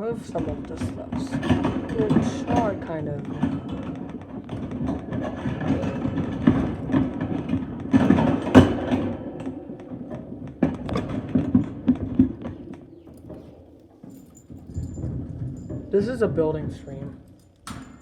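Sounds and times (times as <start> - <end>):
toys clicking and rattling: 0.0 - 18.0.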